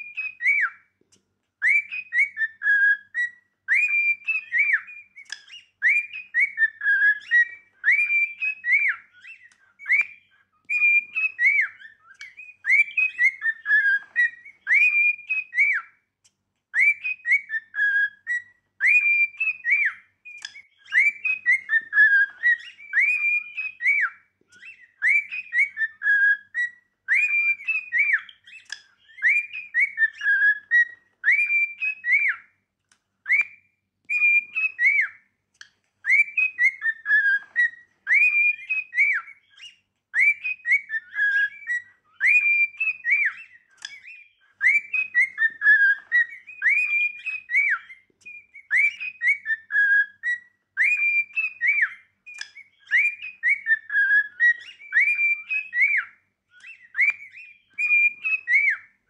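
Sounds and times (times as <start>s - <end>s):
cockatiel whistling: 0.0s - 1.0s, 1.6s - 16.1s, 16.7s - 32.6s, 33.2s - 59.0s.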